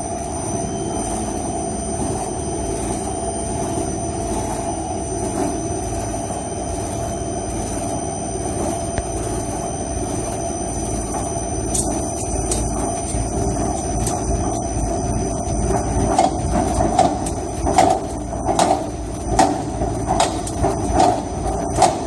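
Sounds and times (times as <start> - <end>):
compressor mechanical drone: 0.0 - 22.0
high-pitched whine: 0.0 - 22.0.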